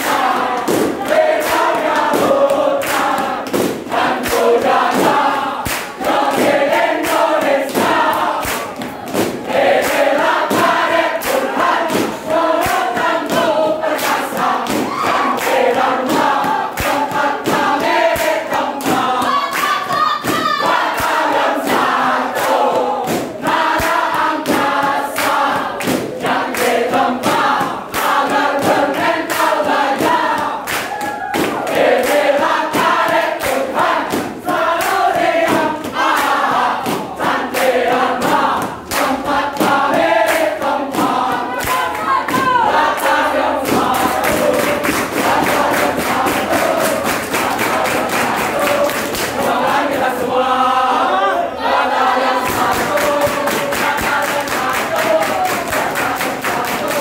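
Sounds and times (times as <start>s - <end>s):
hand claps: 0.0s - 50.3s, 52.2s - 57.0s
group singing in chorus: 0.0s - 57.0s.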